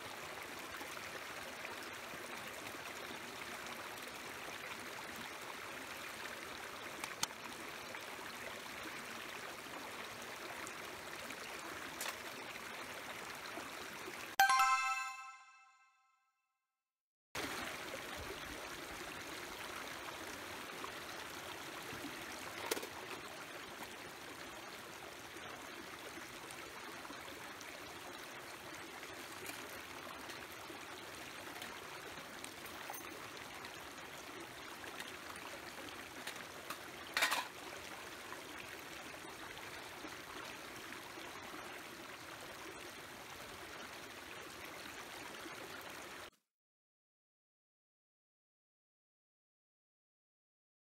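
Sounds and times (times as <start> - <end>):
stream running over rocks: 0.0 - 15.0, 17.4 - 46.3.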